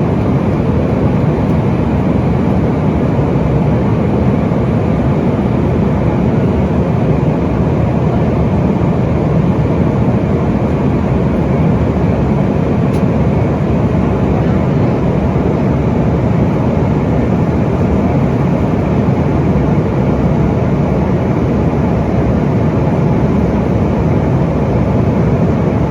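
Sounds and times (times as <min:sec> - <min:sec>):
jet cabin engine roar: 0:00.0 - 0:25.9.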